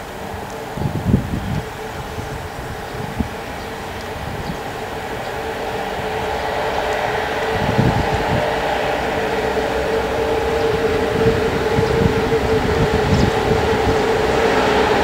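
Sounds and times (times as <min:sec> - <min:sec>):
electric locomotive hum: 0:00.0 - 0:15.0.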